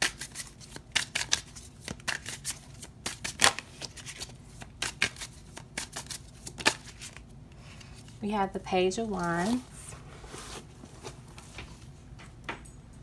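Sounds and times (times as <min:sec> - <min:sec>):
cards being shuffled: 0:00.0 - 0:08.2, 0:09.0 - 0:11.9.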